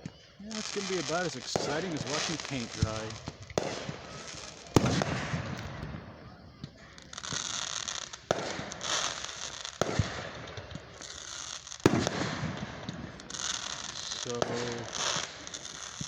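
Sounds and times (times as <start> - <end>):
crackling hiss: 0.0 - 16.0
fireworks booming: 0.0 - 16.0
fireworks pops: 0.0 - 16.0.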